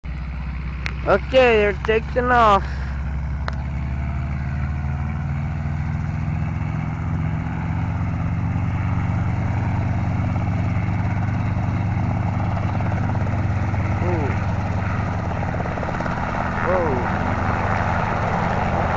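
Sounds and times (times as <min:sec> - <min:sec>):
helicopter engine running: 0:00.1 - 0:18.9
helicopter rotor beating: 0:00.1 - 0:18.9.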